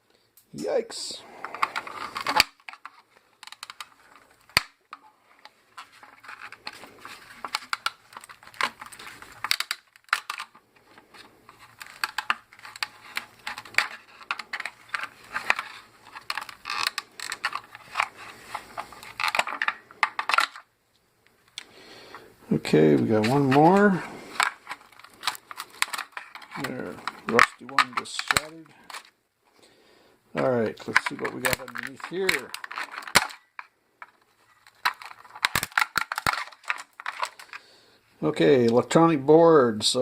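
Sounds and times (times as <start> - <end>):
tools scraping plastic: 1.2 - 20.7, 22.6 - 29.2, 30.8 - 37.7.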